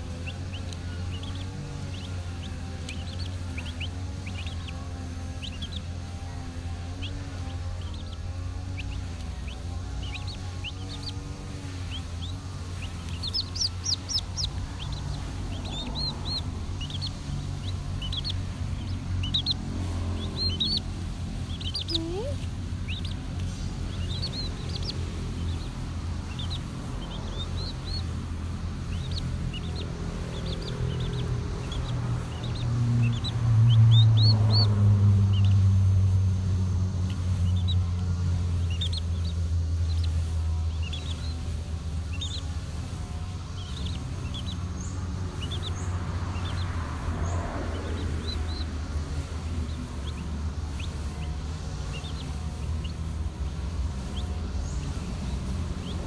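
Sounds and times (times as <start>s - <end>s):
chicks peeping: 0.0s - 56.0s
steady low hum: 0.0s - 56.0s.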